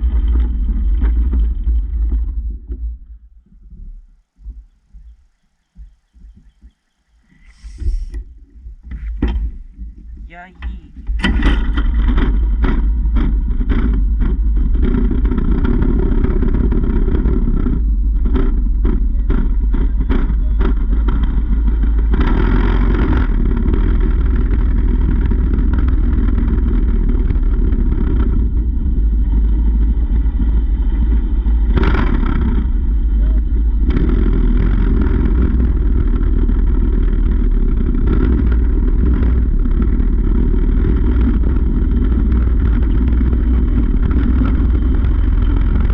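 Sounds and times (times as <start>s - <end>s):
mini bike engine running: 0.0s - 2.9s, 9.0s - 45.9s
wind buffeting microphone: 0.0s - 45.9s.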